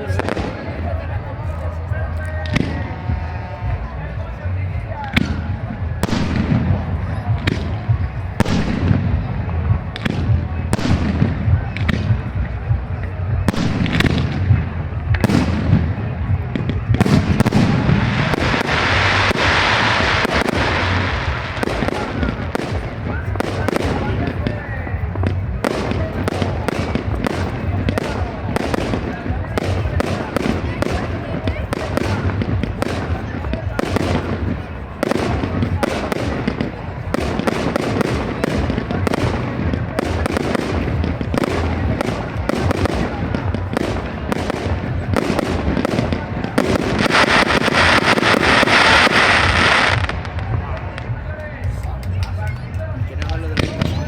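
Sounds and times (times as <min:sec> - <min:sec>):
continuous rumble: 0:00.0 - 0:54.0
fireworks bangs: 0:00.0 - 0:54.0
fireworks crackle: 0:00.0 - 0:54.0.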